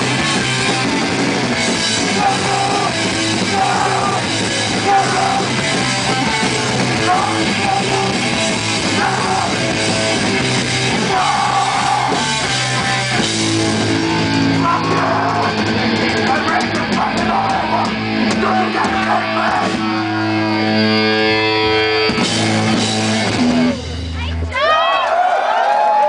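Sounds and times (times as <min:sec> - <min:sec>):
drums and cymbals: 0:00.0 - 0:20.0, 0:21.4 - 0:24.6
electric guitar chords ringing: 0:00.0 - 0:24.0.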